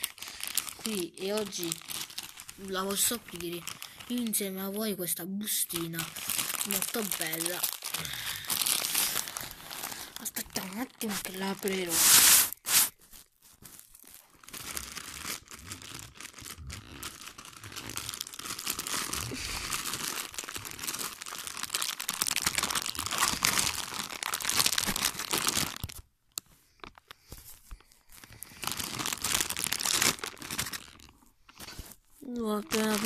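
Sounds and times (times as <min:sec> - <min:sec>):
plastic bag crinkling and tearing: 0:00.0 - 0:33.0.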